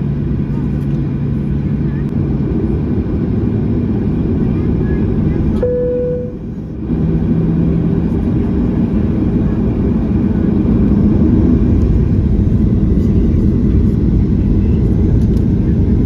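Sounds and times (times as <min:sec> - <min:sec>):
jet engine rumble inside cabin: 0:00.0 - 0:16.0.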